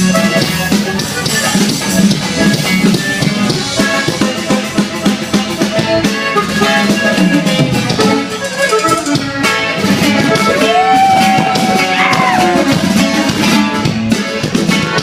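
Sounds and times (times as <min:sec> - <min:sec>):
band music with drums: 0:00.0 - 0:15.0
plucked strings: 0:00.0 - 0:15.0.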